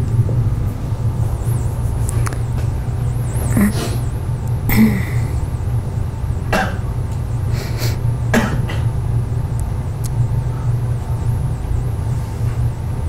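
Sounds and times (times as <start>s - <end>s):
faint warbling high whine: 0.0s - 13.0s
low room hum: 0.0s - 13.0s.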